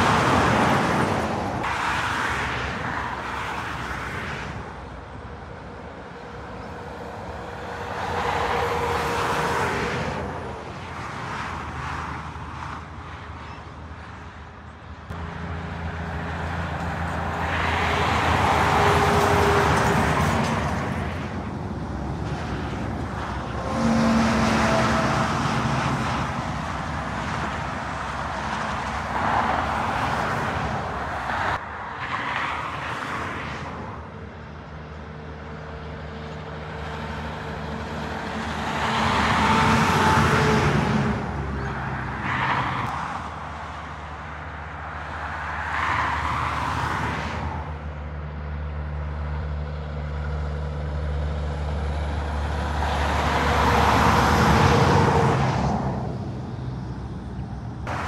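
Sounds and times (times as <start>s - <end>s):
trucks passing on motorway: 0.0s - 58.0s.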